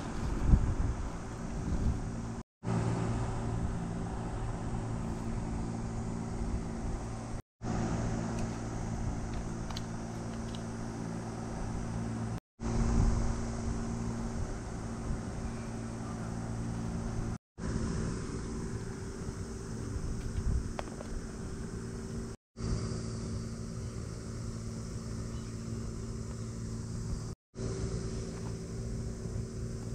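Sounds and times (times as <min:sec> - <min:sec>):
low even hum: 0:00.0 - 0:29.9.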